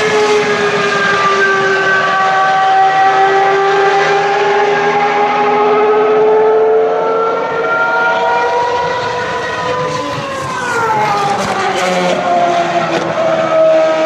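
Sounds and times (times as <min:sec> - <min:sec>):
racing car engine at high revs: 0:00.0 - 0:14.0.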